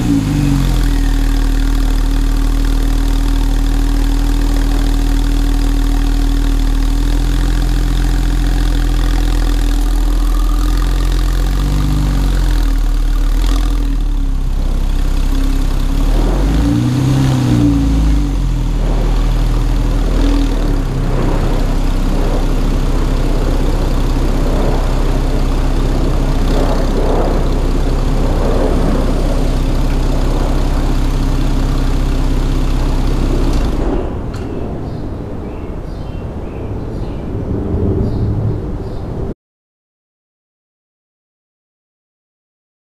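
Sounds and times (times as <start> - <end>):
car engine idling: 0.0 - 36.1.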